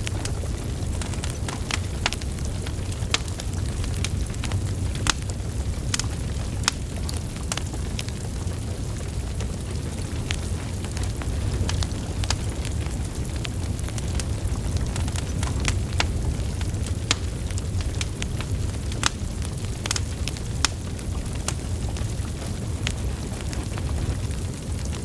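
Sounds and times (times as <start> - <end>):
logs crackling and popping: 0.0 - 25.0
low rumble of flame: 0.0 - 25.0.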